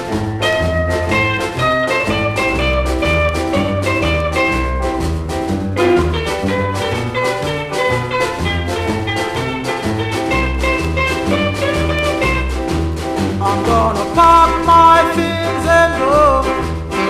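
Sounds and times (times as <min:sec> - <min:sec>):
ska band with drums and bass: 0:00.0 - 0:17.0.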